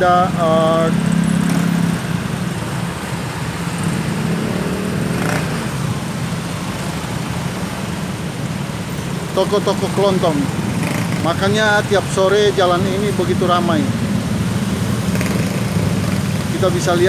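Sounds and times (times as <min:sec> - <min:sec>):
traffic engine drone: 0:00.0 - 0:17.0.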